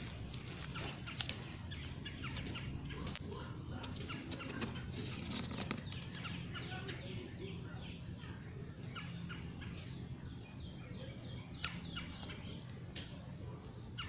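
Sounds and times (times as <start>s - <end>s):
small bird chirping: 0.1s - 14.0s.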